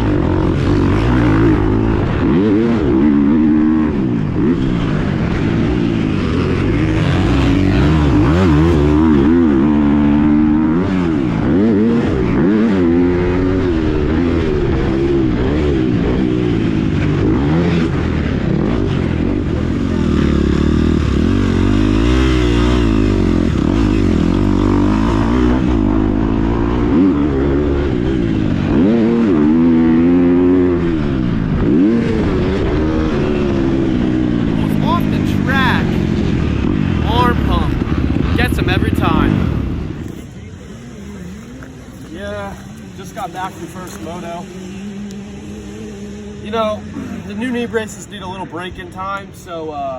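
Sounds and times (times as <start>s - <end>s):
dirt bike engine revving: 0.0s - 49.6s.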